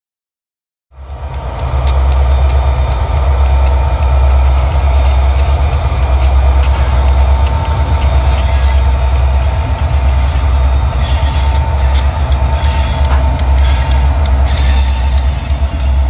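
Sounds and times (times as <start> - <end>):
locomotive engines rumbling: 1.0 - 16.0
steady mid-pitched tone: 1.0 - 16.0
wheels clicking and squealing on rails: 1.0 - 16.0.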